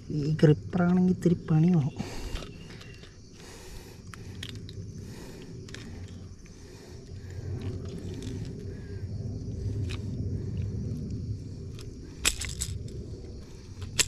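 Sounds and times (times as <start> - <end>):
low rumble on microphone: 0.0 - 14.0.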